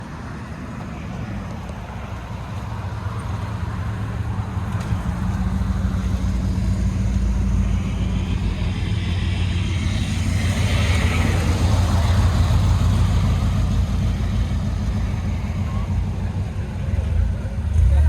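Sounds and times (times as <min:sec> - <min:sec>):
car engine humming: 0:00.0 - 0:18.0.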